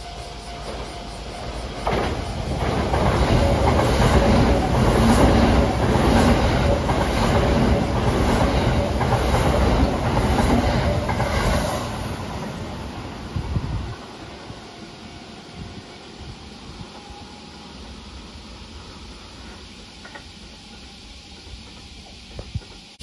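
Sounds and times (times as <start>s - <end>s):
electric train passing: 0.0s - 23.0s.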